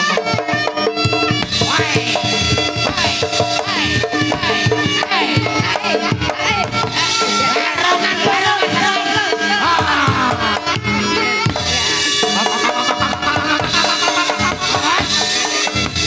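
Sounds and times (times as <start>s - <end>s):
hand drum strokes: 0.0s - 16.0s
woman singing: 1.6s - 15.3s.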